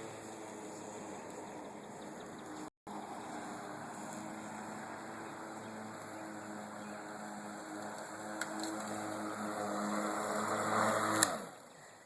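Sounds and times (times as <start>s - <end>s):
electric lawn mower humming: 0.0s - 11.7s.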